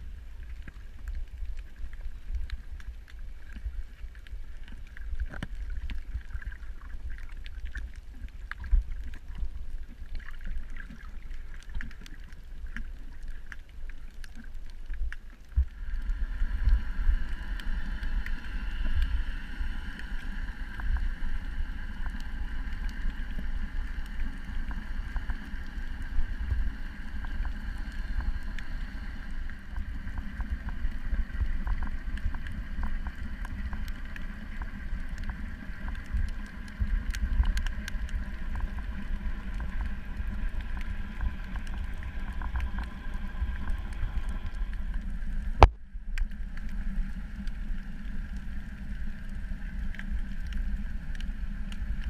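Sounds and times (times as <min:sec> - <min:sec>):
steady hum: 0:00.0 - 0:52.0
faint clicks: 0:00.4 - 0:52.0.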